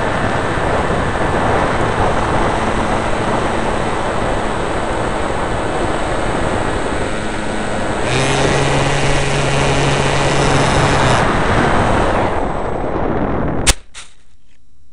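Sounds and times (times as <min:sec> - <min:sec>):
model plane motor drone: 0:00.0 - 0:13.5
rushing wind: 0:00.0 - 0:14.0.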